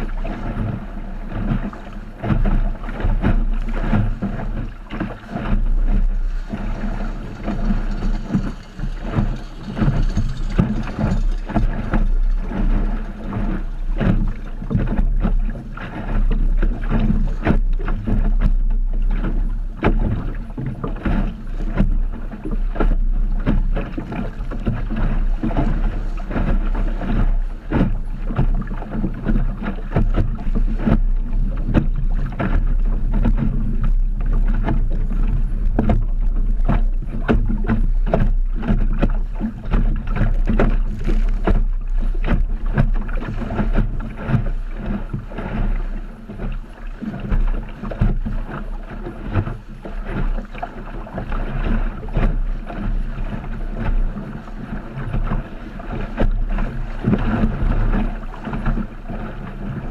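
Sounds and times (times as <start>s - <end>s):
waves slapping against hull: 0.0s - 59.9s
wind rumble on microphone: 0.0s - 59.9s.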